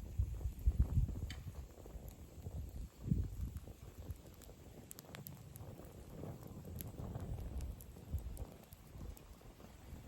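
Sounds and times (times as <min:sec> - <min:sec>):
campfire crackles and pops: 0:00.0 - 0:10.0
fire low rumble: 0:00.0 - 0:10.0.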